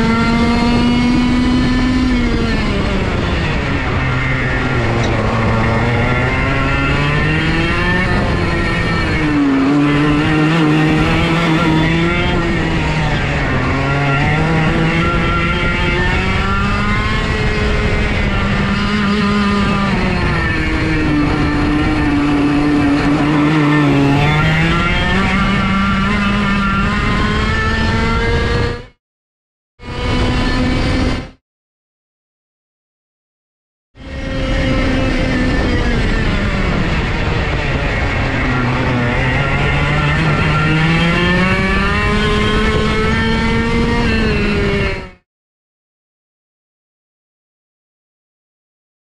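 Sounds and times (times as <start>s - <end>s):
racing kart engine revving: 0.0s - 29.0s, 29.8s - 31.4s, 34.0s - 45.2s.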